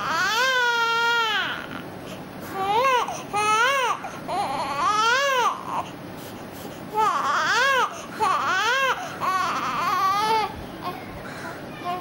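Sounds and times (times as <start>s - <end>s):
infant crying: 0.0s - 1.8s, 2.5s - 6.0s, 6.9s - 12.0s.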